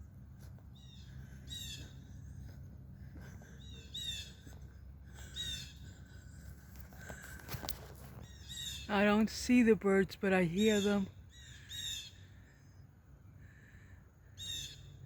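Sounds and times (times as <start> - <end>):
low outdoor rumble: 0.0 - 15.0
songbird singing: 0.0 - 15.0.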